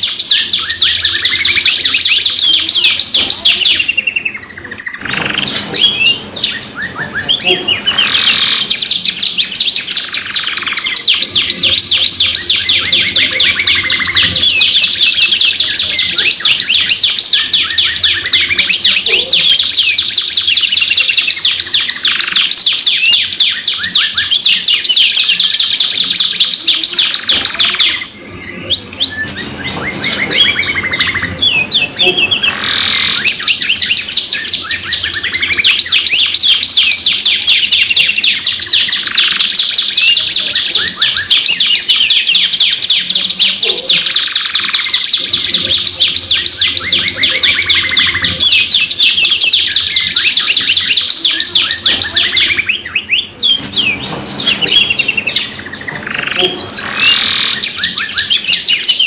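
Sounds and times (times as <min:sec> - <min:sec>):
canaries singing trills and chirps: 0:00.0 - 0:59.0.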